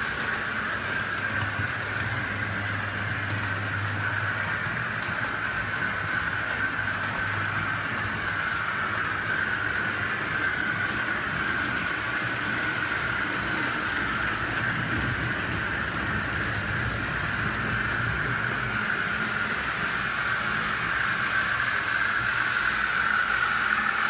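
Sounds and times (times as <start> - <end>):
model train whine: 0.0 - 24.0.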